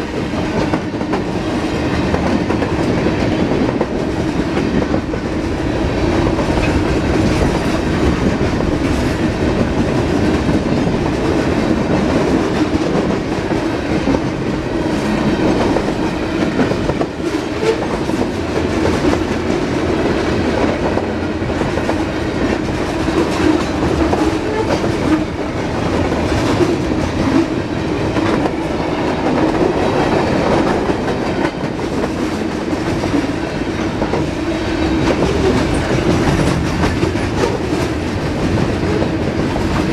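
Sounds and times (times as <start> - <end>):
freight train wheels rumbling: 0.0 - 39.9
rail clicks: 0.0 - 39.9.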